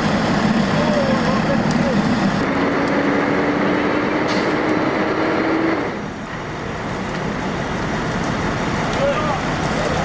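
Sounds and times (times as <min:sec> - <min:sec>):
diesel engines and pumps rumbling: 0:00.0 - 0:10.0.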